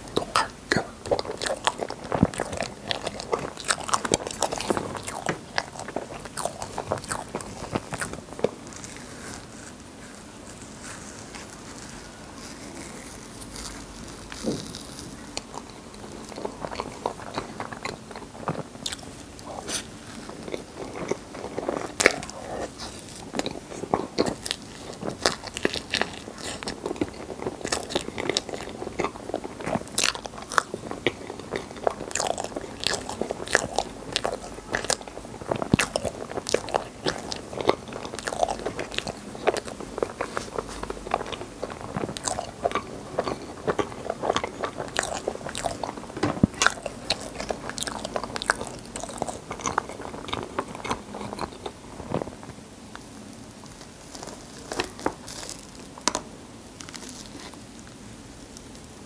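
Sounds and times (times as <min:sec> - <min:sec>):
person chewing and biting: 0:00.0 - 0:52.4, 0:53.0 - 0:57.6.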